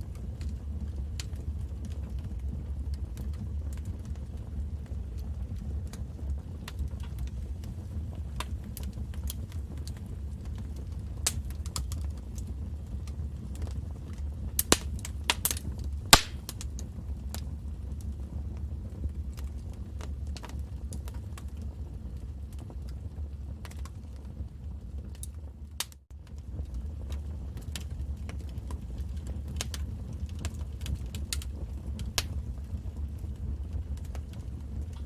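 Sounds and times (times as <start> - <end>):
low rumble of burning fire: 0.0 - 35.0
wood fire crackling: 0.0 - 35.0.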